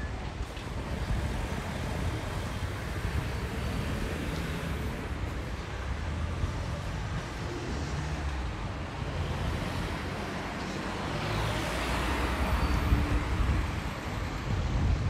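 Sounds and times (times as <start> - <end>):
low traffic rumble: 0.0 - 15.0
car passing: 0.4 - 14.6.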